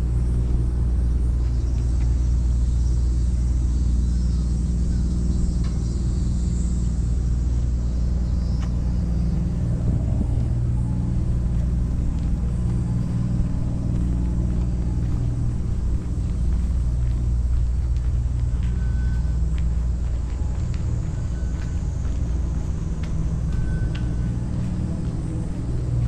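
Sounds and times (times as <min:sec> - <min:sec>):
machine hum: 0:00.0 - 0:26.0
steady low rumble: 0:00.0 - 0:26.0.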